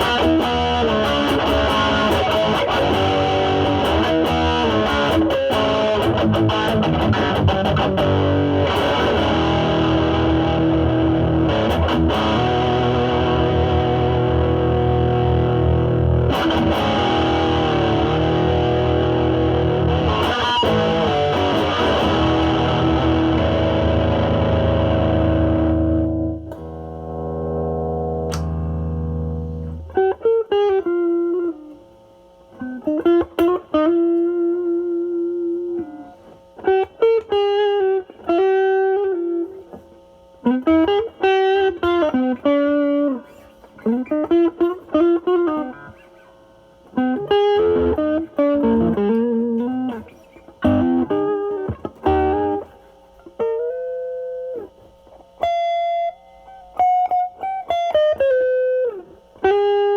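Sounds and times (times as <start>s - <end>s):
overdriven electric guitar: 0.0s - 59.9s.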